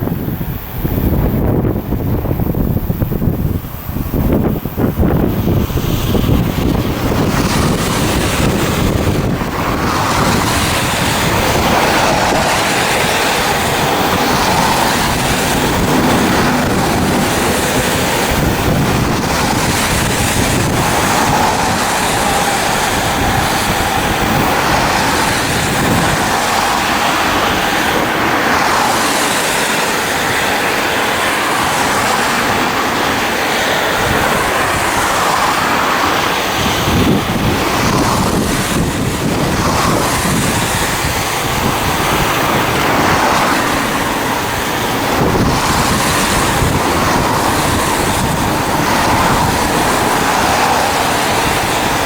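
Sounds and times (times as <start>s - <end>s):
freight train rumbling on track: 0.0s - 52.0s
wind on microphone: 0.0s - 52.0s.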